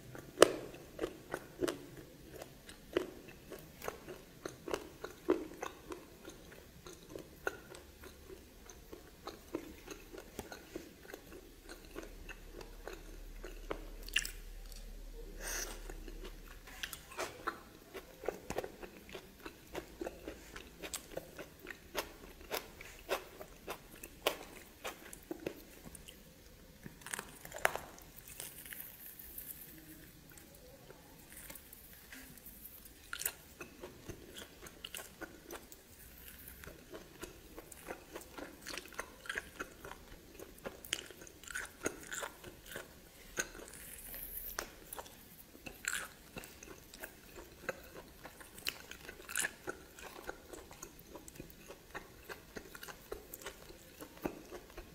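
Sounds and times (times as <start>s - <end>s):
person chewing with crunches: 0.0s - 54.9s.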